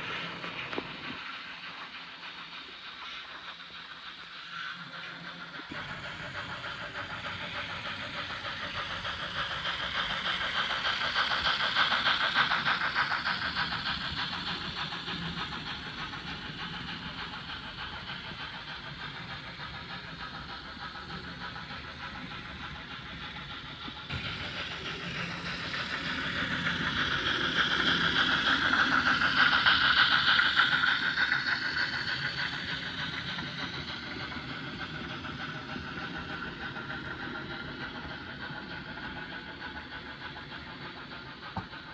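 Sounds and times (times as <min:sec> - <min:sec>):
model train motor whir: 0:00.0 - 0:41.9
wheels clattering on rails: 0:00.0 - 0:41.9.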